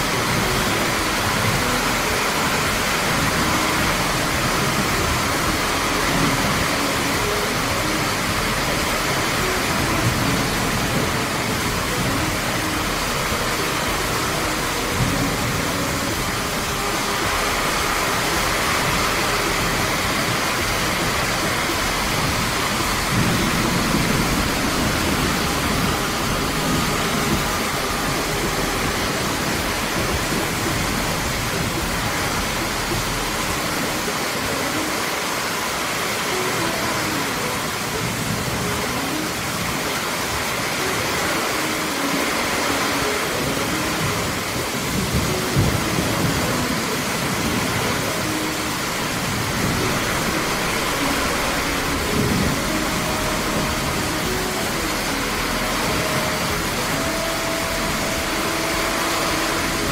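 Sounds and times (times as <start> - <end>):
very heavy rain: 0.0 - 59.9
water streaming off a roof: 0.0 - 59.9.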